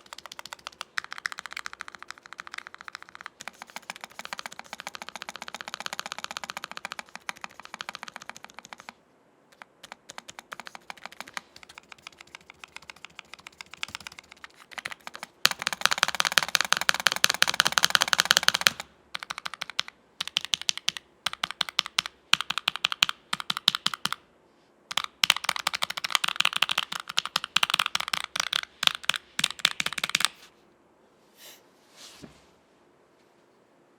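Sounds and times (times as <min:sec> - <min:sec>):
mechanical keyboard typing: 0:00.0 - 0:24.2, 0:24.9 - 0:30.4.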